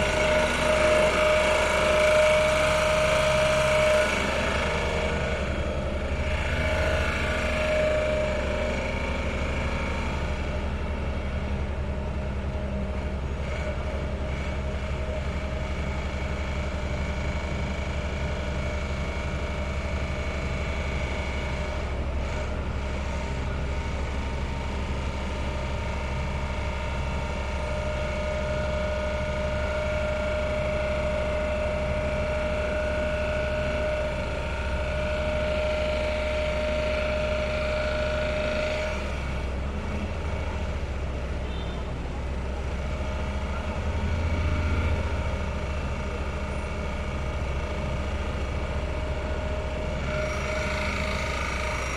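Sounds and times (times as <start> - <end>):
pile driving machinery drone: 0.0 - 51.9
steady whining tones: 0.0 - 51.9.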